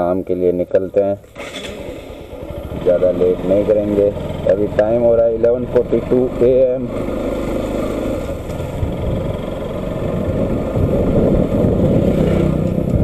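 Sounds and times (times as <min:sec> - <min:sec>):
motorcycle engine running: 0:01.2 - 0:13.0.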